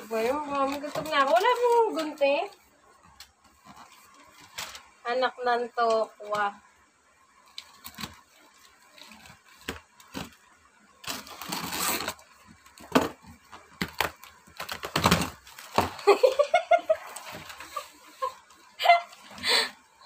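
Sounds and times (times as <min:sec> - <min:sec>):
tape and cardboard rustling: 0:00.0 - 0:05.0, 0:07.4 - 0:19.4.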